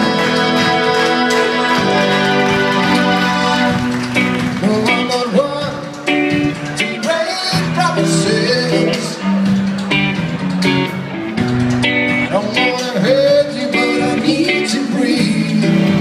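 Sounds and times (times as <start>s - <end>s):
person singing: 0.0s - 9.5s, 12.2s - 16.0s
pop-rock band playing: 0.0s - 16.0s.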